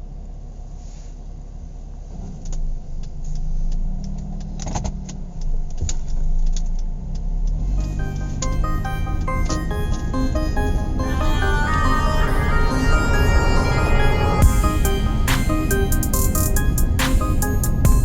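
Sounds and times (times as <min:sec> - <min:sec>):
car low rumble: 0:00.0 - 0:18.0.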